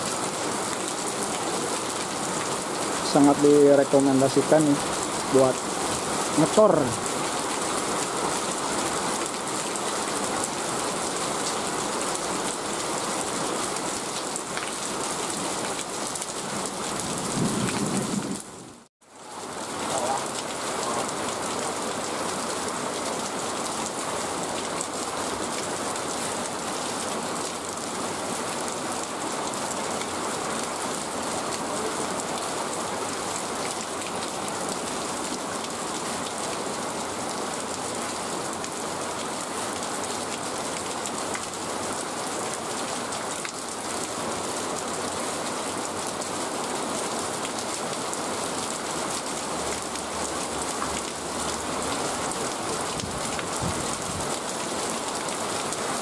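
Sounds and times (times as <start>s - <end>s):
rain falling on wet ground: 0.0s - 56.0s.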